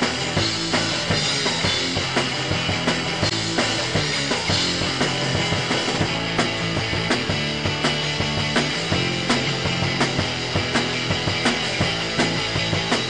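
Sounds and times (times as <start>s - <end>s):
rock music with drums and bass: 0.0s - 13.0s.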